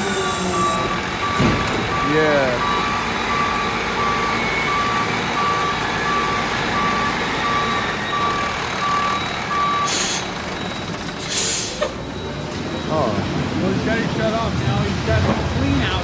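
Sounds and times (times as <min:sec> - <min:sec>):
backup alarm beeping: 0:00.0 - 0:13.2
diesel engine running: 0:00.0 - 0:16.0.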